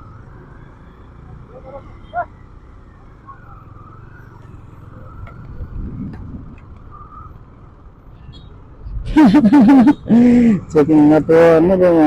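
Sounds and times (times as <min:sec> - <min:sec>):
motorbike engine and road noise: 0:00.0 - 0:12.0.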